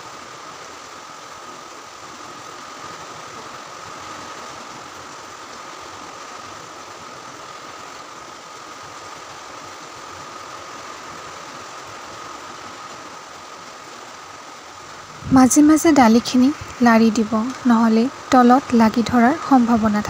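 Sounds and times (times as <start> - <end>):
faint steady whine: 0.0 - 20.0.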